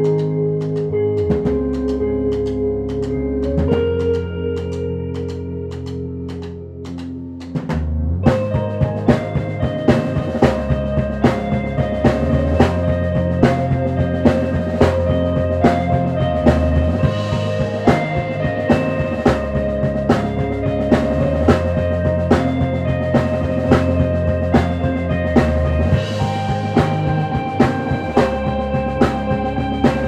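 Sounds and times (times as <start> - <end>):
bass guitar: 0.0 - 30.0
drum kit beat: 0.0 - 30.0
electric guitar chords: 0.0 - 30.0.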